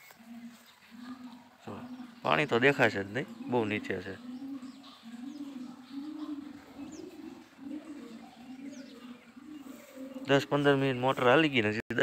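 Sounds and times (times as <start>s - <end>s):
pigeon cooing: 0.0s - 11.5s.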